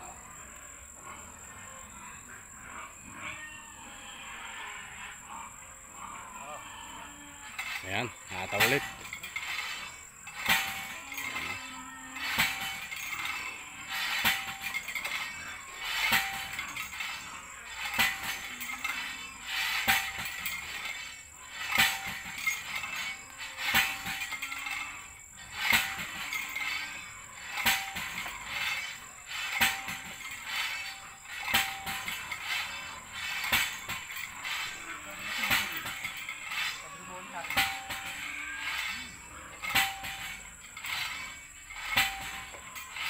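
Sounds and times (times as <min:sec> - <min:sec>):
pulley and rope squeaking: 0:00.0 - 0:43.0.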